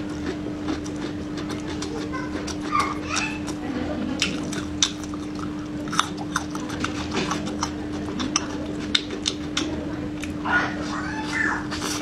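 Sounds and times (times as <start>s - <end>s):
chewing raw garlic crunches: 0.0s - 3.6s, 4.2s - 10.4s
steady low hum: 0.0s - 12.0s.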